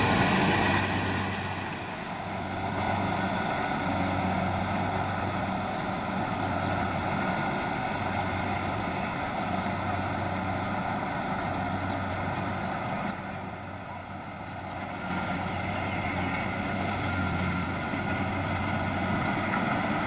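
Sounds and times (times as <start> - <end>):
diesel engine hum: 0.0 - 20.0
threshing machinery noise: 0.0 - 20.0.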